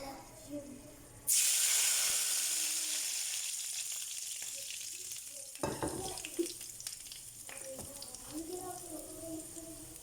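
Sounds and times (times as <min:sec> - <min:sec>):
hot oil sizzling in a pan: 0:01.3 - 0:10.0.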